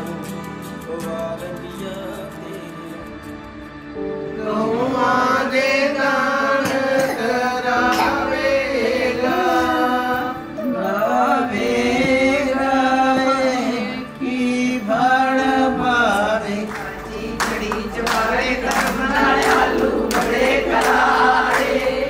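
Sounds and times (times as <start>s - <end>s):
voices singing devotional lines: 4.0s - 22.0s.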